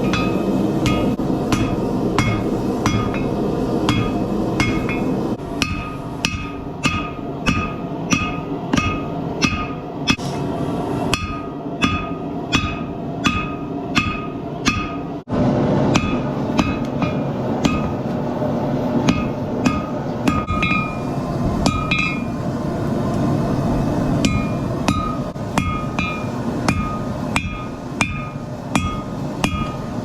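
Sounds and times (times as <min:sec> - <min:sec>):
hammer striking steel on anvil: 0:00.0 - 0:10.4, 0:11.1 - 0:15.2, 0:15.9 - 0:18.1, 0:19.0 - 0:21.0, 0:21.6 - 0:22.3, 0:24.2 - 0:30.0
steady low roar: 0:00.0 - 0:30.0.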